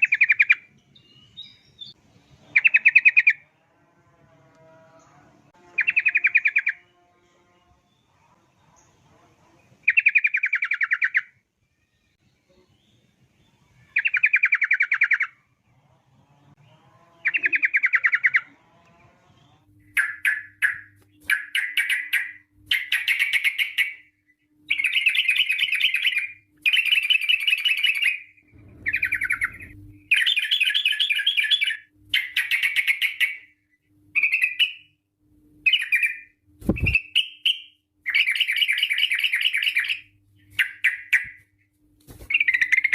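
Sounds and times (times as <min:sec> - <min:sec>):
bird singing rolling trill: 0:00.0 - 0:09.0, 0:09.7 - 0:11.4, 0:16.6 - 0:41.4, 0:42.3 - 0:42.9.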